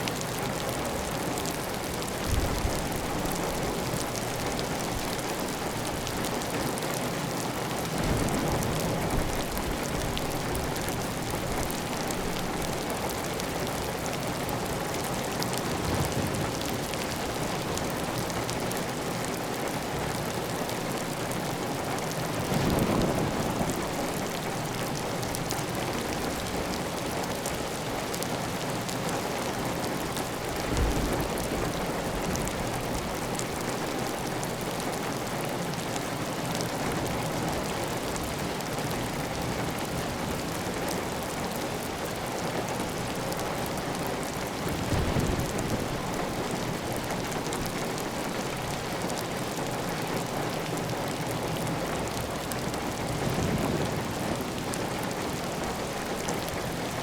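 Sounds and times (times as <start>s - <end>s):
heavy rain on a tiled roof: 0.0s - 57.0s.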